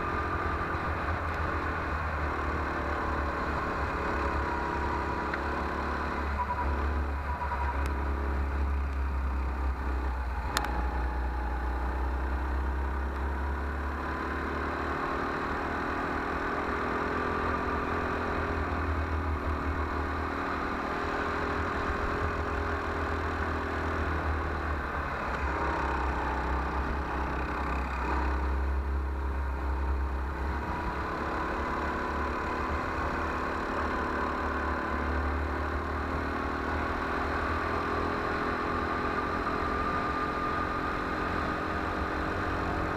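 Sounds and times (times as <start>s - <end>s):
low rumble of wind and vibration: 0.0s - 42.9s.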